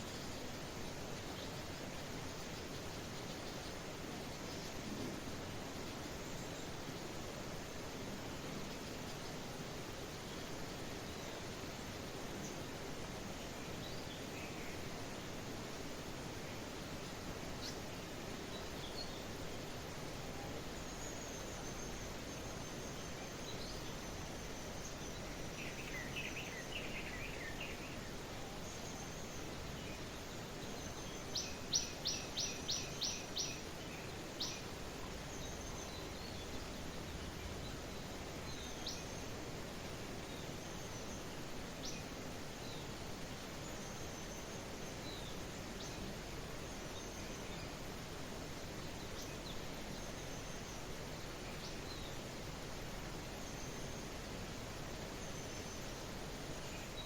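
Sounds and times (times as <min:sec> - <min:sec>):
songbirds chirping: 0:00.0 - 0:57.0
steady background hiss: 0:00.0 - 0:57.0.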